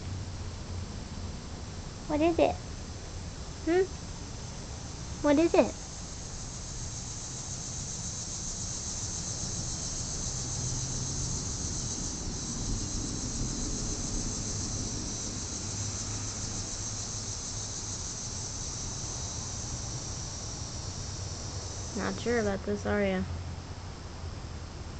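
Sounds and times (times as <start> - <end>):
high-pitched insect chorus: 3.2 - 24.6.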